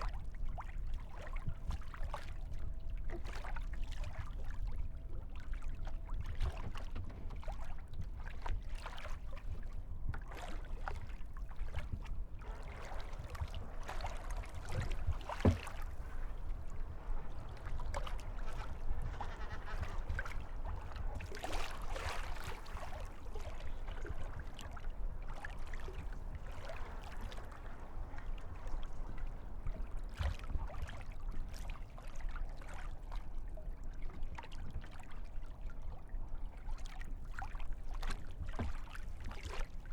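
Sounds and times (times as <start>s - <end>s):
paddle splashes: 0.0s - 39.9s
water lapping against hull: 0.0s - 39.9s.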